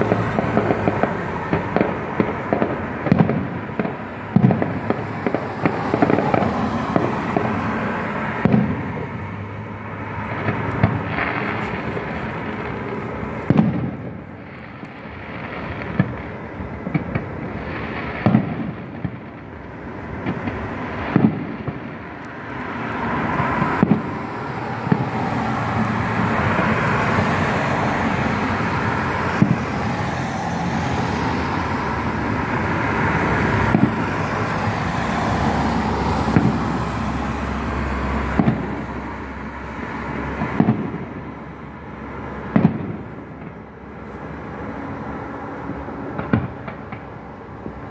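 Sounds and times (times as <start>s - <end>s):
distant fireworks bangs: 0.0s - 39.4s, 40.0s - 44.7s, 45.6s - 47.9s
steady rushing noise: 0.0s - 47.9s.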